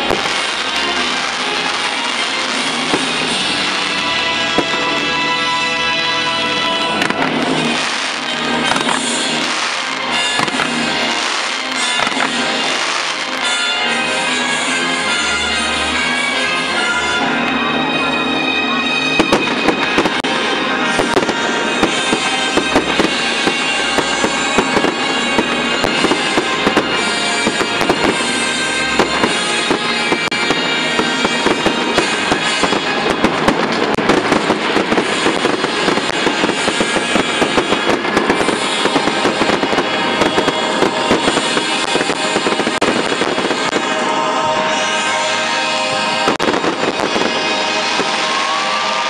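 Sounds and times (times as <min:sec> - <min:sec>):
fireworks bangs and crackling: 0:00.0 - 0:49.0
music playing: 0:00.0 - 0:49.0.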